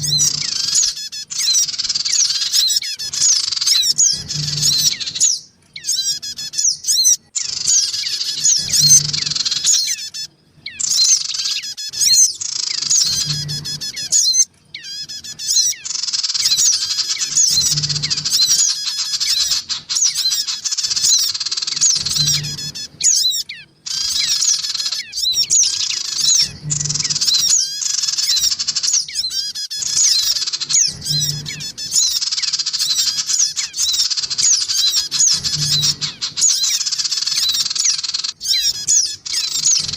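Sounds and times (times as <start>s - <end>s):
songbirds chirping and squawking: 0.0s - 39.9s
young birds calling: 0.0s - 39.9s.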